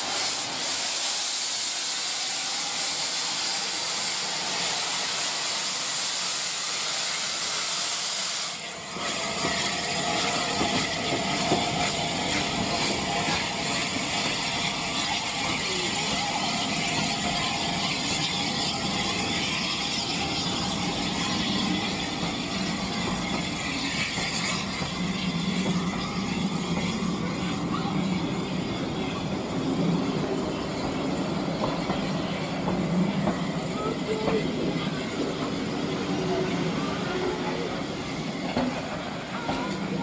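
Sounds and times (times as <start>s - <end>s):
train wheels rattling on track: 0.0s - 40.0s.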